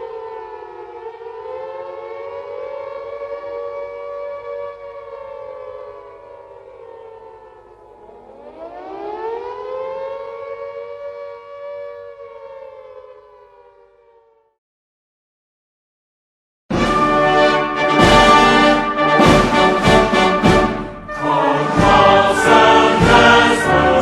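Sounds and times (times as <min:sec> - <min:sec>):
civil defense sirens steady tone: 0:00.0 - 0:14.6, 0:16.8 - 0:24.0.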